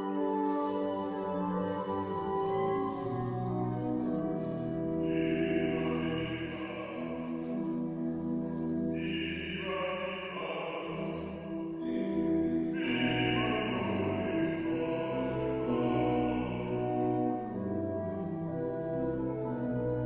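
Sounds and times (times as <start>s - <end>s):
slow held chords live music: 0.0s - 20.0s.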